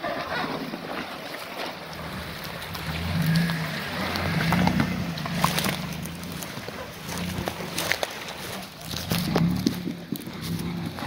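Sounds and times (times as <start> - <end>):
engine crawling over rocks: 0.0 - 11.0.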